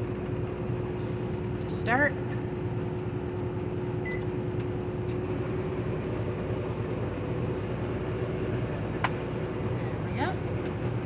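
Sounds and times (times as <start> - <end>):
air fryer humming: 0.0 - 11.0.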